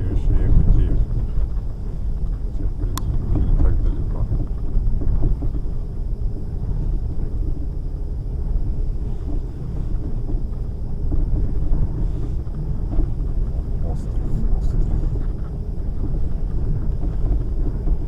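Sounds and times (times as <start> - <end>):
vehicle engine and tyres rumbling: 0.0 - 18.0.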